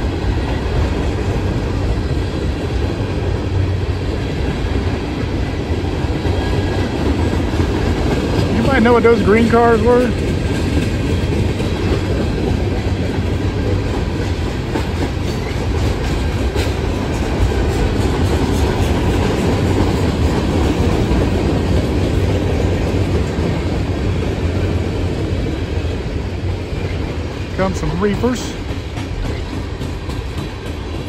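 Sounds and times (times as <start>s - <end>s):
train wheels on rails: 0.0s - 31.0s.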